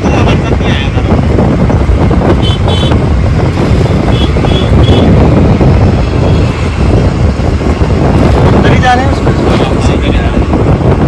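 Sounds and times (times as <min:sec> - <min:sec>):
street traffic: 0:00.0 - 0:11.0
wind buffeting microphone: 0:00.0 - 0:11.0.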